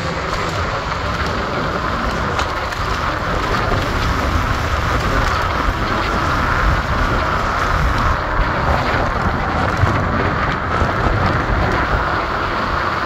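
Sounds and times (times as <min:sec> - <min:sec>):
street traffic hum: 0:00.0 - 0:13.0
wind rush on microphone: 0:00.0 - 0:13.0.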